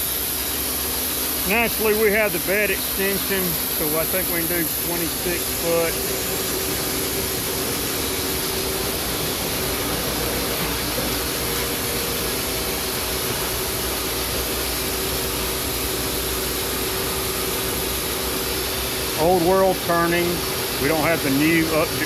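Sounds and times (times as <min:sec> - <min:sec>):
band sawmill humming: 0:00.0 - 0:22.0.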